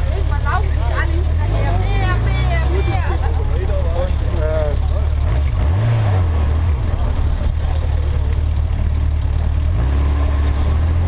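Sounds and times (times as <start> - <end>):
faint crowd voices: 0.0 - 11.0
motorcycle engine at low revs: 0.1 - 11.0.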